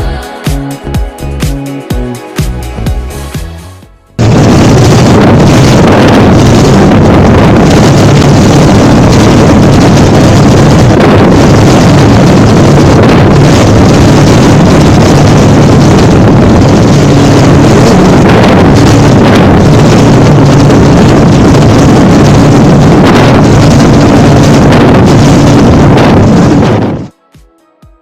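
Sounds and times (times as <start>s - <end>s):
jet ski engine drone: 2.5s - 27.0s
wind buffeting microphone: 4.2s - 27.1s.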